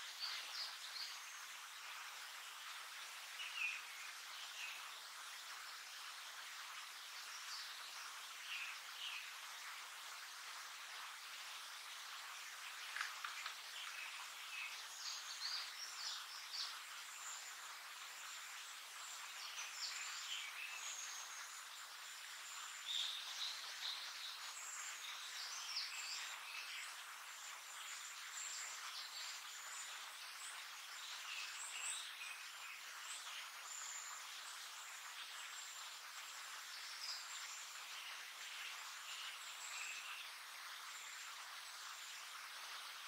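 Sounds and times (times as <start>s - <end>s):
background hiss: 0.0s - 43.0s.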